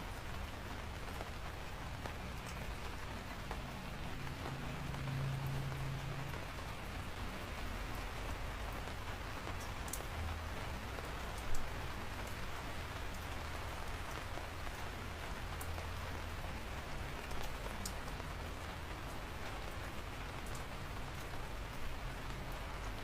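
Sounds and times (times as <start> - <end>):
steady rainfall: 0.0 - 23.0.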